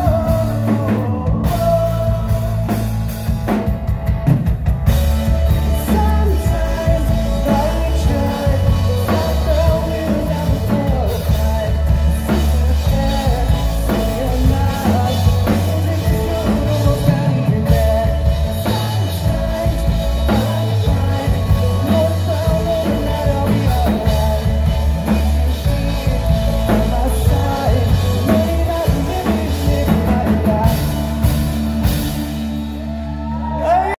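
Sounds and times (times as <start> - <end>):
person singing: 0.0 - 3.3, 5.0 - 34.0
bass guitar: 0.0 - 34.0
drum kit: 0.0 - 34.0
guitar: 0.0 - 34.0.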